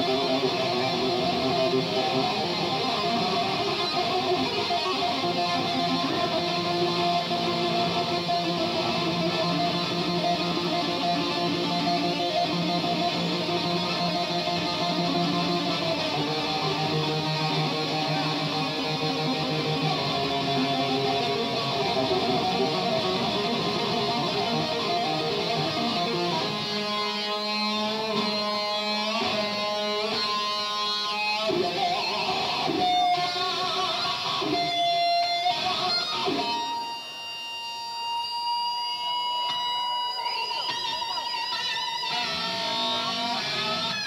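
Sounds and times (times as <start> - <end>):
electric guitar solo: 0.0 - 44.0.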